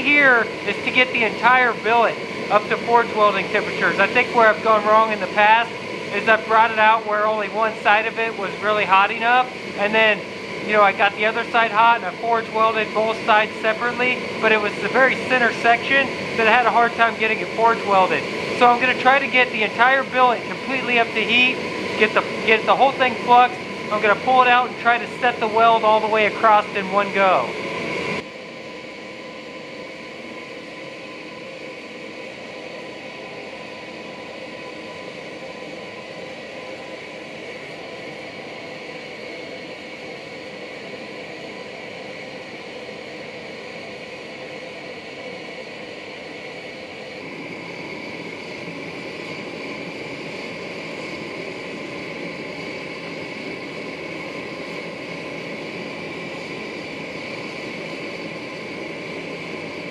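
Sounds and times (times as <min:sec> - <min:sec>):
forge burner roaring: 0:00.0 - 0:59.9.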